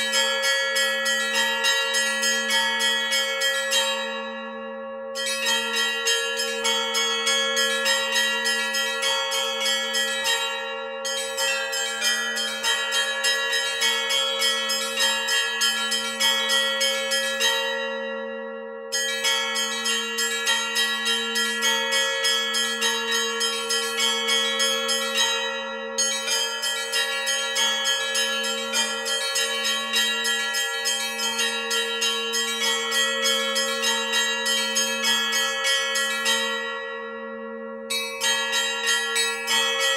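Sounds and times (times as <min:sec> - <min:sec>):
large low bells ringing: 0:00.0 - 0:39.9.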